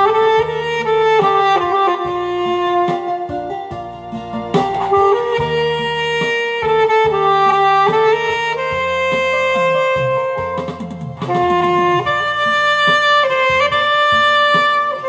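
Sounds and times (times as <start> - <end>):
backing accompaniment: 0.0 - 15.0
saxophone slow melody: 0.0 - 15.0.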